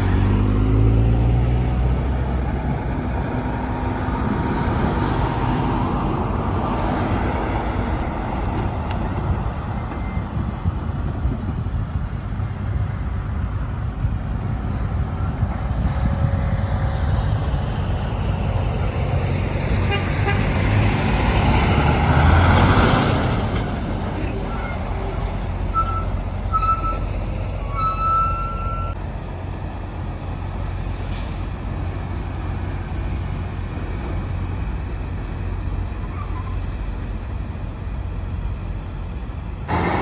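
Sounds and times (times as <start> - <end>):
diesel truck engine pulling: 0.0 - 40.0
tyre and traffic noise: 0.0 - 40.0.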